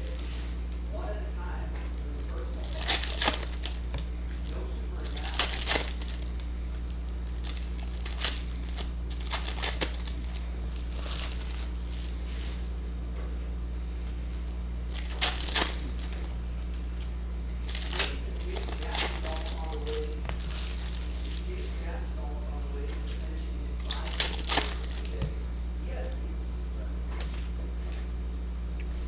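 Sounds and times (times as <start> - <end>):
wrappers crinkling and tearing: 0.0 - 12.8, 13.7 - 26.2, 27.1 - 28.1
low electrical hum: 0.0 - 29.0.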